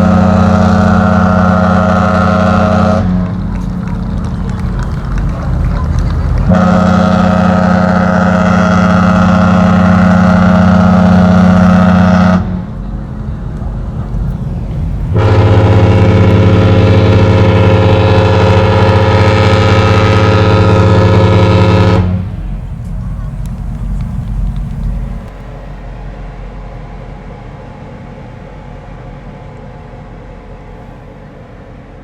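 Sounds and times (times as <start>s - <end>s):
ship's horn blasts: 0.0s - 26.6s.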